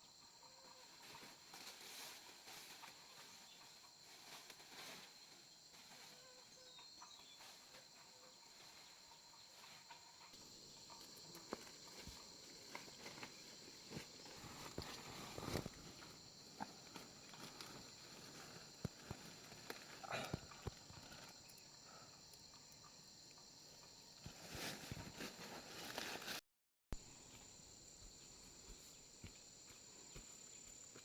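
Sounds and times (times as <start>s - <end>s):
high-pitched insect chorus: 0.0s - 26.2s, 27.0s - 31.0s.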